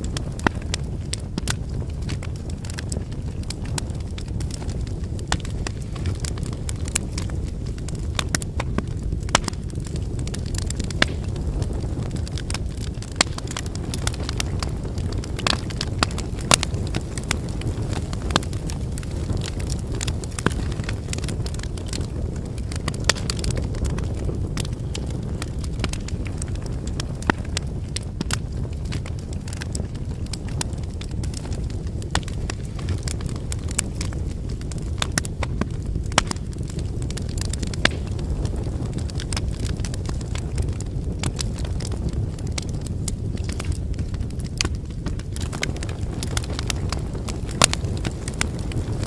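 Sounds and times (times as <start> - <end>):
firewood crackling and popping: 0.0 - 49.0
low rush of flames: 0.0 - 49.0.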